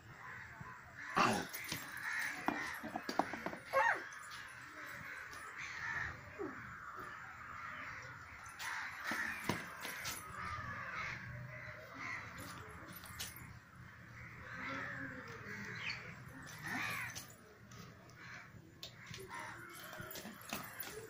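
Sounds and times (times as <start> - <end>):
harsh cawing bird calls: 0.1 - 17.4, 18.2 - 21.0.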